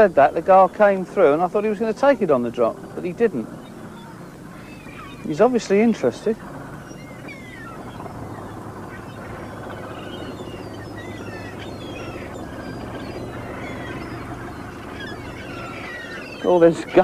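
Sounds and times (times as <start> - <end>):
gulls calling: 0.0 - 17.0
steady low hum: 0.0 - 17.0.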